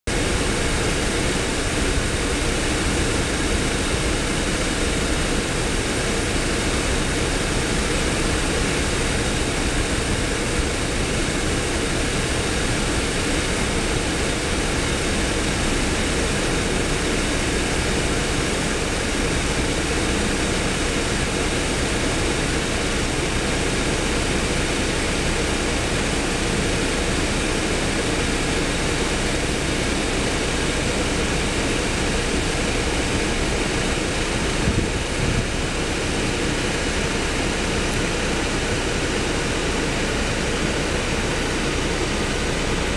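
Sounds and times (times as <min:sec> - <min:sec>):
heavy construction machinery: 0:00.1 - 0:42.9
jet engines roaring: 0:00.1 - 0:42.9.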